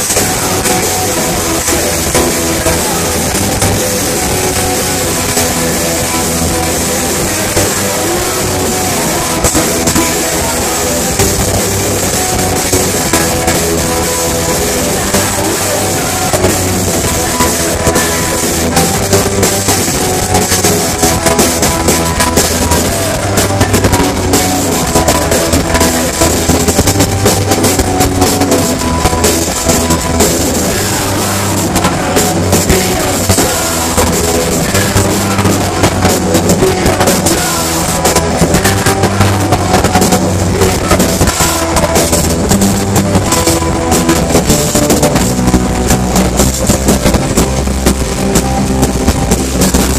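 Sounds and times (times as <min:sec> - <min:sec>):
bass guitar: 0:00.0 - 0:49.9
drum kit pounding: 0:00.0 - 0:49.9
electric guitars: 0:00.0 - 0:49.9.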